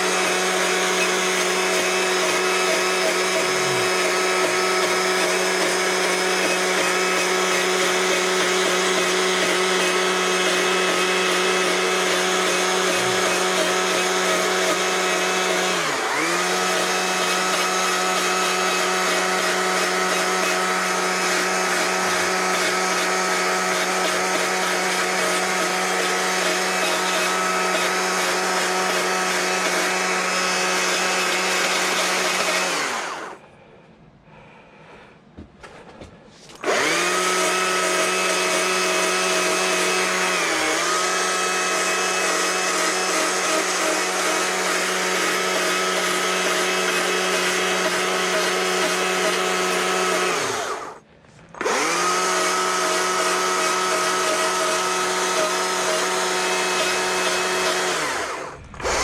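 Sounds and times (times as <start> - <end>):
power tool motor whining: 0.0 - 33.4, 36.5 - 59.0.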